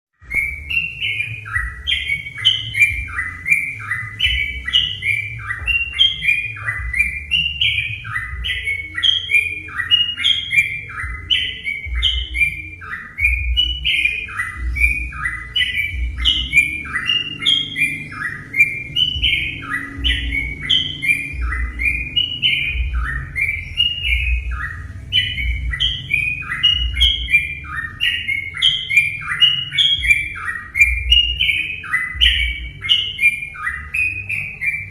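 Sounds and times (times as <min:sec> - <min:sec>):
bulbul chattering song: 0:00.2 - 0:34.9.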